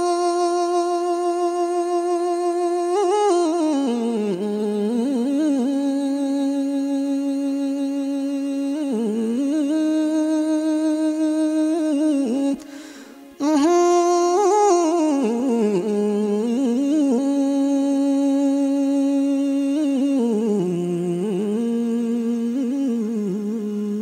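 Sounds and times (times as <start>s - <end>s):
wordless vocal melody: 0.0s - 24.0s.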